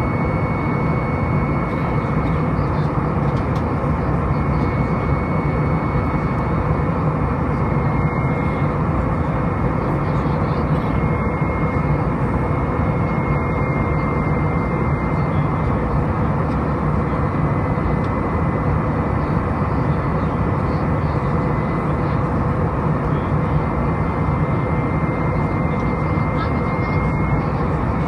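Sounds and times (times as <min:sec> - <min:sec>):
aircraft cabin engine noise: 0:00.0 - 0:28.0.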